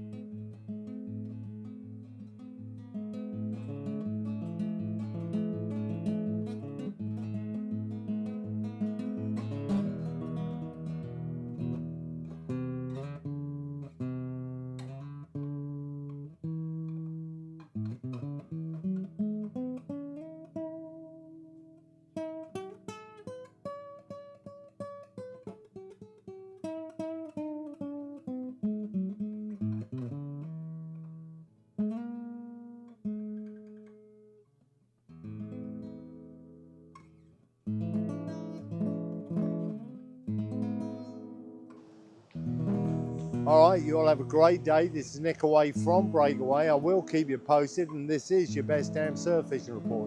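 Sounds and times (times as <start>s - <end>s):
acoustic guitar music: 0.0s - 50.0s.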